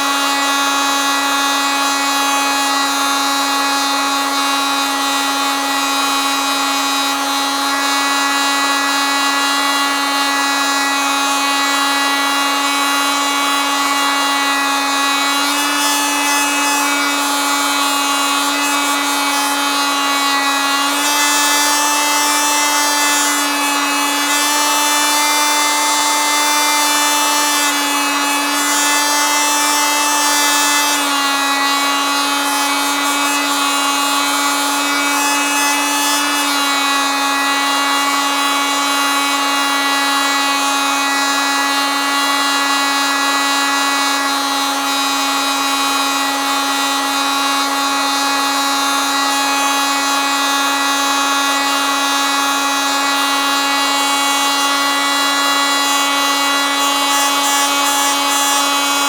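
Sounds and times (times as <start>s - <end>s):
oscillating multitool buzzing: 0.0s - 59.0s.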